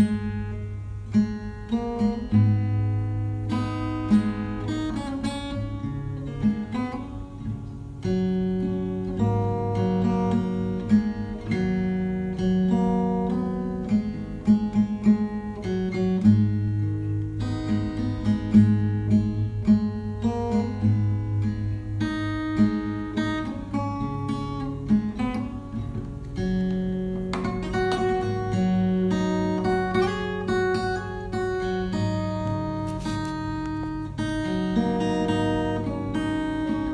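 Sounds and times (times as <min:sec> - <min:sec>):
plucked acoustic guitar: 0:00.0 - 0:36.9.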